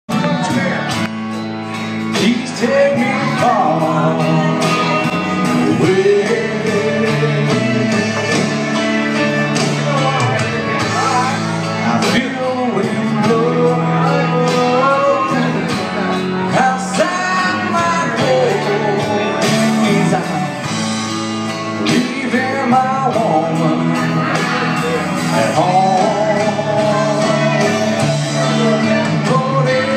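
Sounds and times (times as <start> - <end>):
instrumental backing: 0.1 - 29.9
man singing into a microphone: 0.1 - 29.9.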